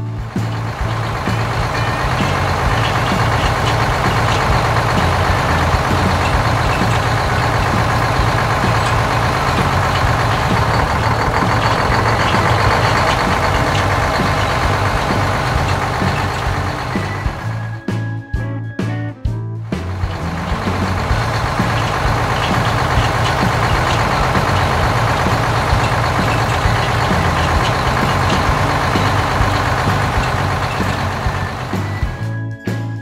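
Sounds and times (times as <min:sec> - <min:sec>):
dense mechanical rattle: 0:00.0 - 0:17.7, 0:19.7 - 0:32.2
low engine drone: 0:00.0 - 0:17.9, 0:19.7 - 0:32.4.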